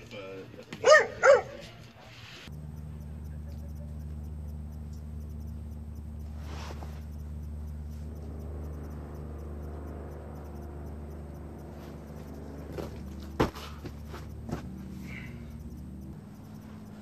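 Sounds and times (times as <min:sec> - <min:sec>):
steady low hum: 0:00.0 - 0:17.0
faint insect chirping: 0:02.4 - 0:17.0.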